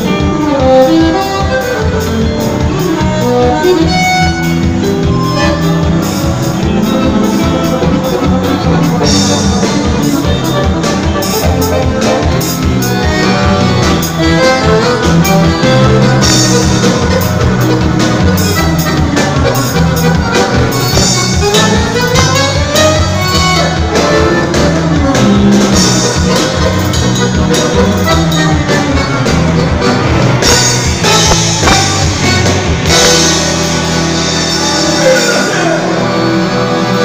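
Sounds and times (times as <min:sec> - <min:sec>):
accordion dance tune: 0:00.0 - 0:37.0
band playing a steady beat: 0:00.0 - 0:37.0.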